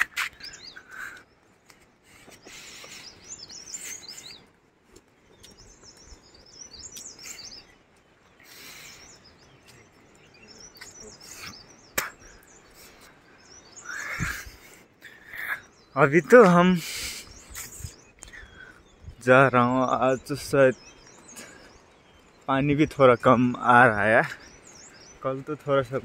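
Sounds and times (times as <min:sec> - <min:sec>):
small birds twittering: 0:00.0 - 0:26.0.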